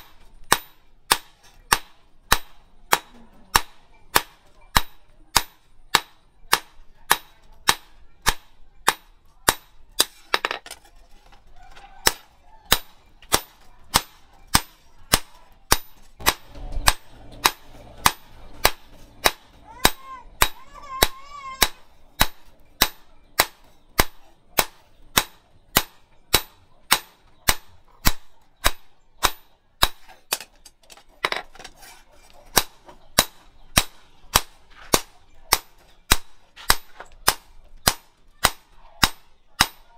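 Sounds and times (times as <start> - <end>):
hammer striking steel on anvil: 0.0 - 10.9, 12.0 - 30.5, 32.5 - 39.9.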